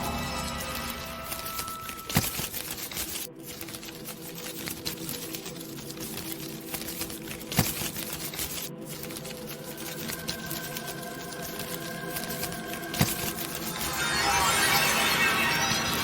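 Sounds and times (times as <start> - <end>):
rapid clicking and rattling: 0.7 - 16.0.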